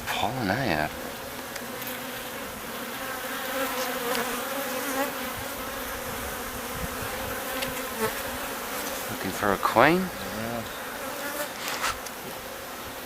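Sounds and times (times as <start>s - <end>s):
honey bees buzzing: 0.0s - 13.0s.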